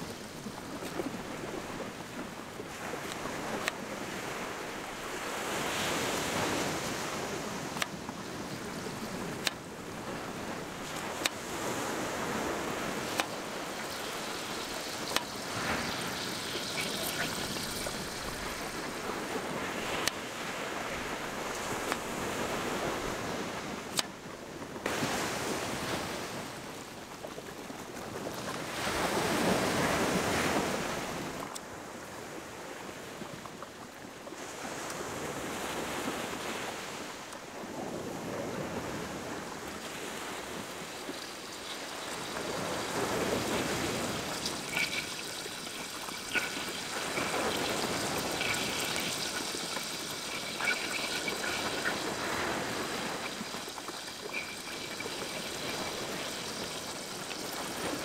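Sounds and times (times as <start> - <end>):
small waves washing on beach: 0.0 - 58.0.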